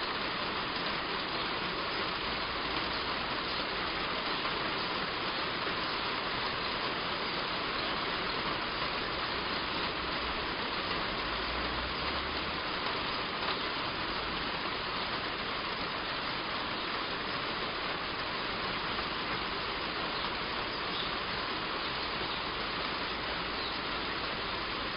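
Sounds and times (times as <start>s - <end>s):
heavy rain drumming on a roof: 0.0s - 24.9s.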